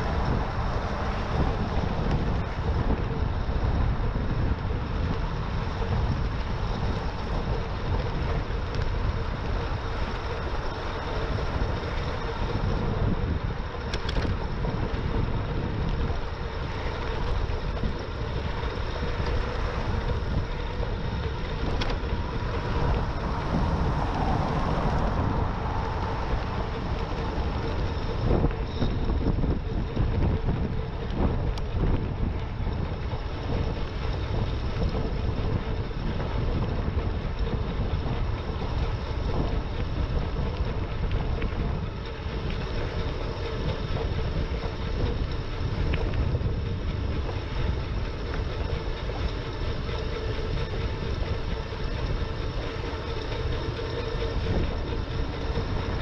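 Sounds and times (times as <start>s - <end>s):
faint constant hum: 0.0s - 56.0s
wind rushing over microphone: 0.0s - 56.0s.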